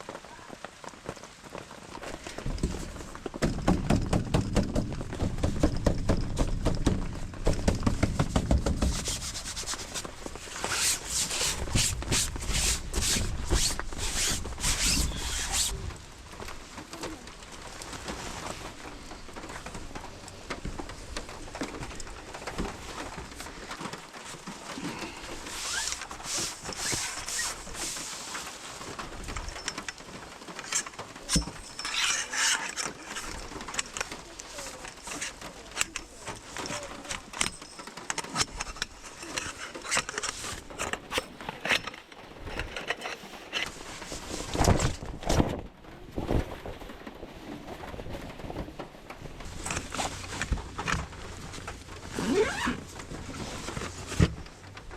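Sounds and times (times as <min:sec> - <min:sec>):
camping gear rustling: 0:00.0 - 0:54.9
gear clicks and knocks: 0:00.6 - 0:54.9.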